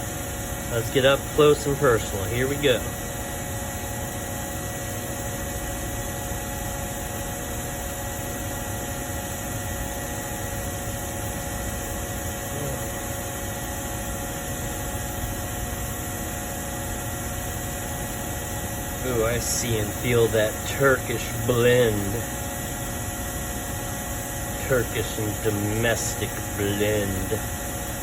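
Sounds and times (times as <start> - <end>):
steady machine hum and hiss: 0.0 - 28.0.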